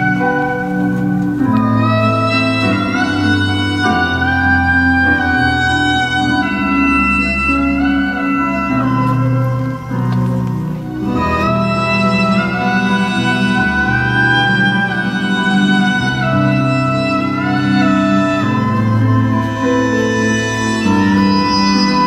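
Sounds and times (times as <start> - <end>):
reedy wind instruments melody: 0.0 - 22.0.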